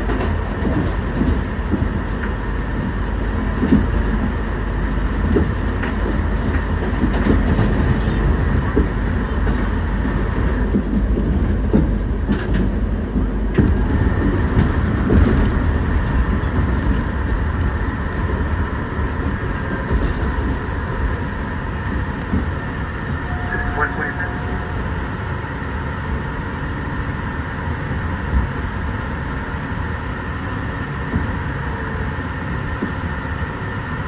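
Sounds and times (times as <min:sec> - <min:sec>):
rail clicks and clacks: 0:00.0 - 0:34.0
train wheels rumbling: 0:00.0 - 0:34.0.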